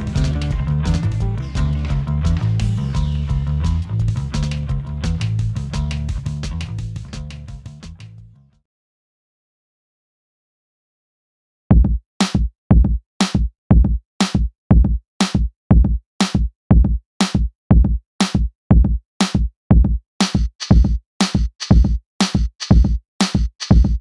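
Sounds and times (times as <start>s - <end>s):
electronic music with drum-machine beat: 0.0s - 8.0s, 11.7s - 24.0s.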